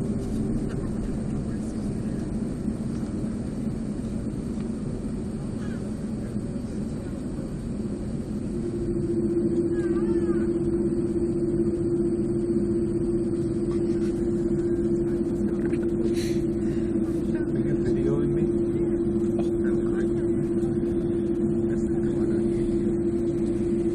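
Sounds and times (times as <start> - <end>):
jet engines rumbling in cabin: 0.0 - 23.9
steady droning note: 0.0 - 23.9.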